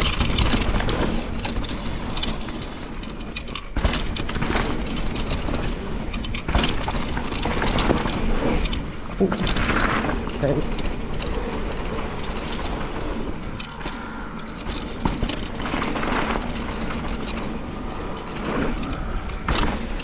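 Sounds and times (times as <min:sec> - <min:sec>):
bike rattling: 0:00.0 - 0:20.0
bike tyre noise: 0:00.0 - 0:20.0
wind rushing over microphone: 0:03.8 - 0:20.0.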